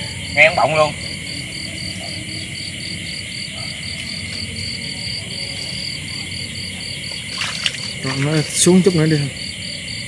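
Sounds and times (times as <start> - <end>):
continuous high insect trill: 0.0 - 10.0
pulsing cricket chirp: 0.0 - 10.0.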